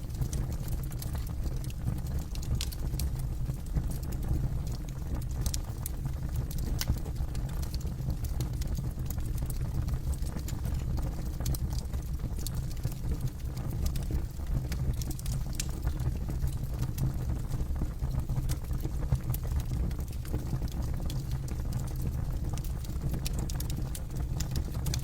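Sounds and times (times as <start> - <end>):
burning wood crackling and popping: 0.0 - 25.0
campfire low rumble: 0.0 - 25.0.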